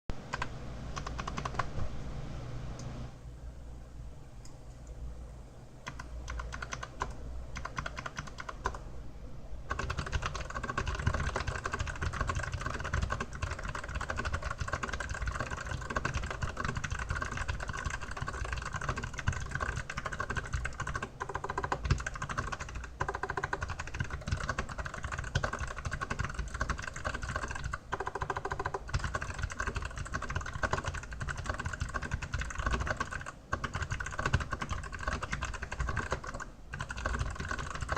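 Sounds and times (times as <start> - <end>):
mechanical keyboard typing: 0.3 - 1.7, 5.8 - 8.8, 9.7 - 37.9.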